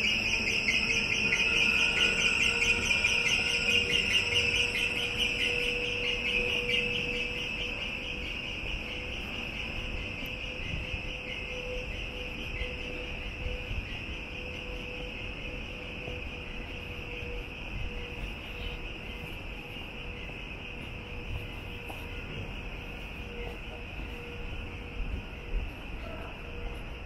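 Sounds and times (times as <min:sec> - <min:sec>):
crickets trilling: 0:00.0 - 0:27.0
faint steady hum: 0:00.0 - 0:27.0.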